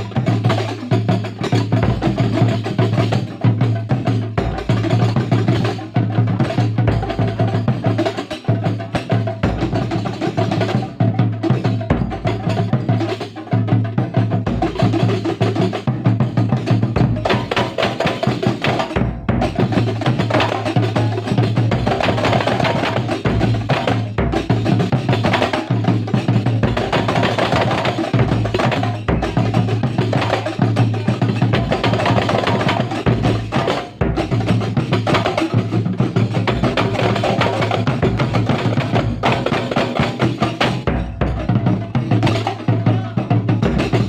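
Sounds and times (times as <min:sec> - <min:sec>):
hand drums playing fast: 0:00.0 - 0:44.0.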